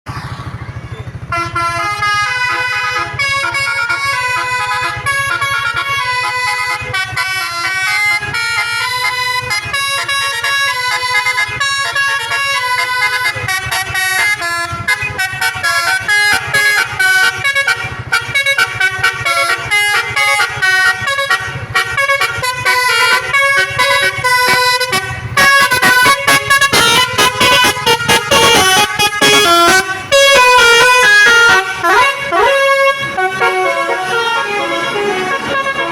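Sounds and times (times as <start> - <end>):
musical air horn tune: 1.3 - 35.9.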